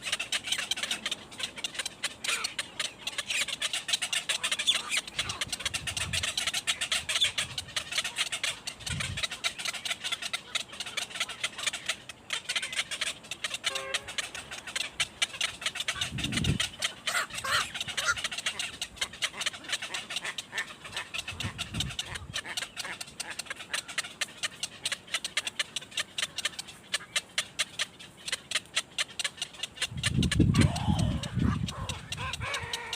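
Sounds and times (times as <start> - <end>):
birds chirping rapidly: 0.0 - 32.9.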